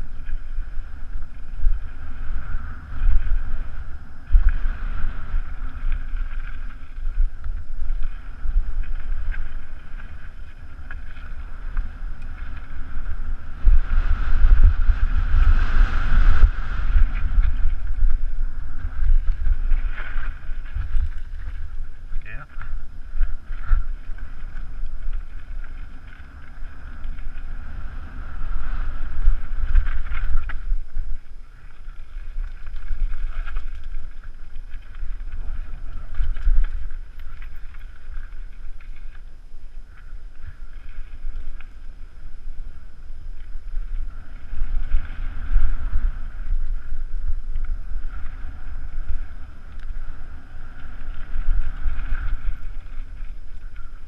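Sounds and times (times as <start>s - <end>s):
bike rumbling and rattling: 0.0s - 54.0s
wind buffeting microphone: 0.0s - 54.0s.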